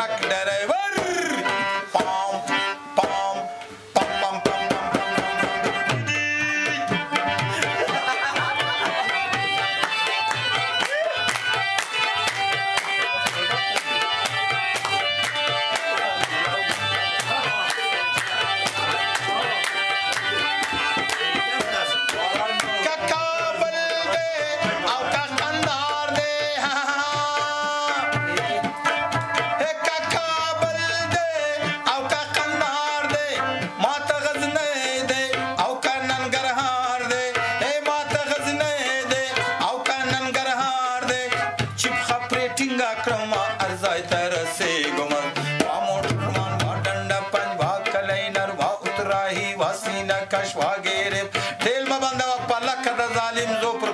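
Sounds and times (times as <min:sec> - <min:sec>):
fast hand-drum rhythm: 0:00.0 - 0:02.4, 0:04.0 - 0:53.9
ornamented melody: 0:00.0 - 0:51.2.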